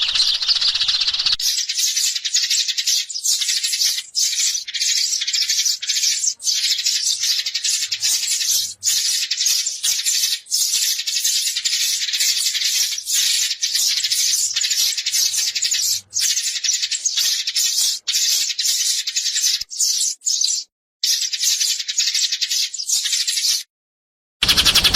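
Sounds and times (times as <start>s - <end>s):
sparrows chirping: 0.0s - 23.7s, 24.4s - 24.9s.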